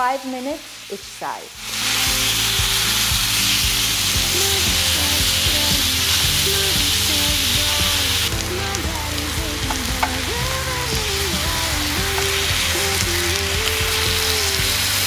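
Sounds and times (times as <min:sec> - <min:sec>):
meat sizzling on grill pan: 0:01.6 - 0:15.0.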